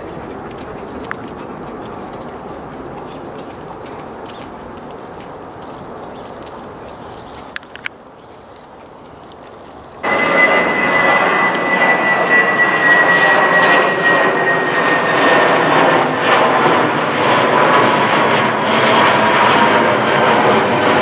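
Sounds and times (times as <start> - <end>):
jet engines roaring overhead: 0.0 - 21.0.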